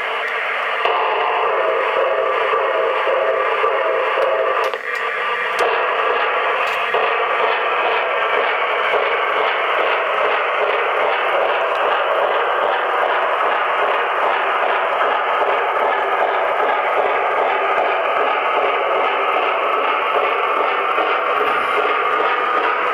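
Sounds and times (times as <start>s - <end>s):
steam locomotive sound from speaker: 0.0s - 22.9s.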